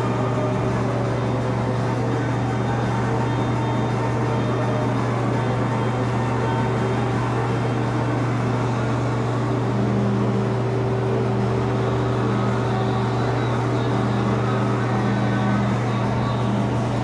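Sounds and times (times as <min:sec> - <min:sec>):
ventilation fans humming: 0:00.0 - 0:17.0.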